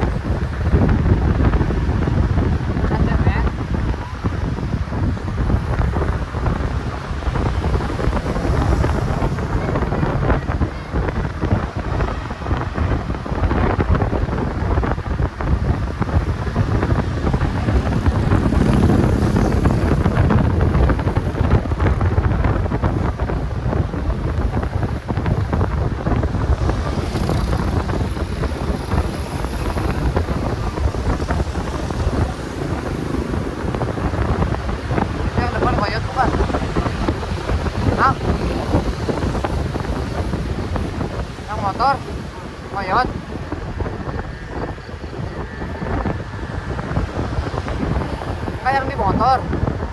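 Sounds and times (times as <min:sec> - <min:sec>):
traffic engine and road noise: 0:00.0 - 0:49.9
wind rushing on microphone: 0:00.0 - 0:49.9.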